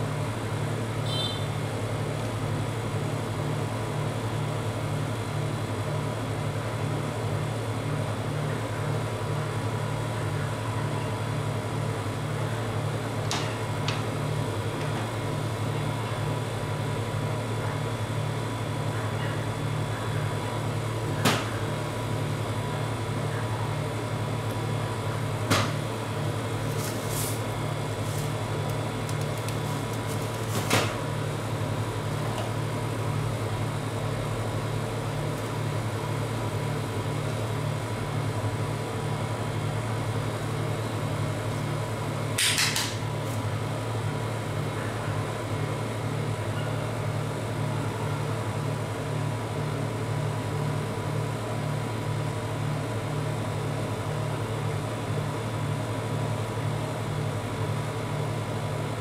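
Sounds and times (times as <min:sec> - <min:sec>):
machine low hum: 0:00.0 - 0:59.0.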